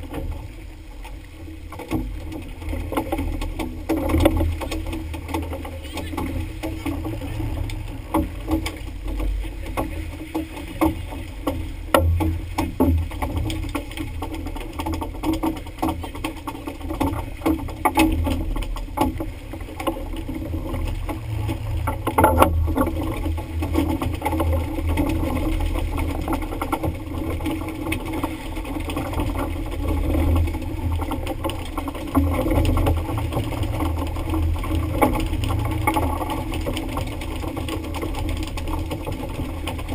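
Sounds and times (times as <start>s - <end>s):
boat engine rumbling: 0.0s - 39.9s
knocks and splashes: 0.0s - 39.9s
water noise: 0.0s - 39.9s
wind: 0.0s - 39.9s.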